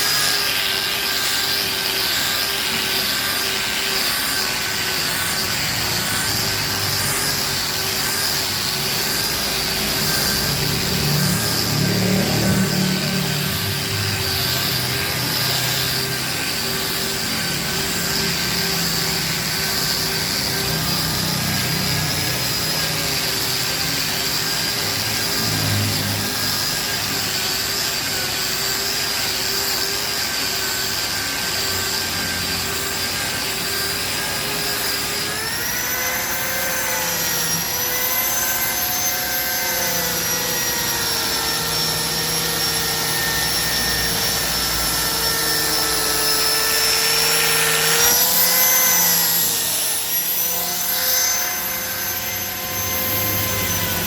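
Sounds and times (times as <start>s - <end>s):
angle grinder sanding wood: 0.0s - 54.0s.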